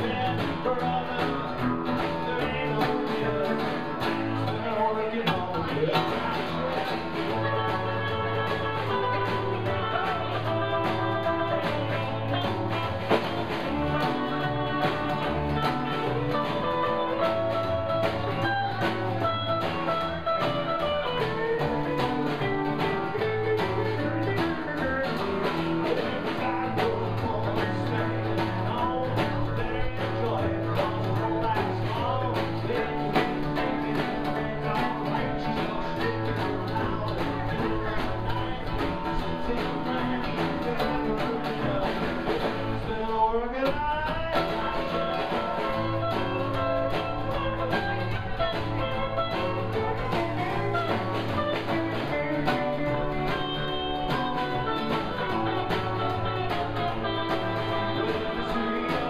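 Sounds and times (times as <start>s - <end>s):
acoustic guitar: 0.0s - 59.0s
drum kit: 0.0s - 59.0s
hollow-body electric guitar: 0.0s - 59.0s
plucked upright bass: 0.0s - 59.0s
rising guitar slide: 0.0s - 59.0s.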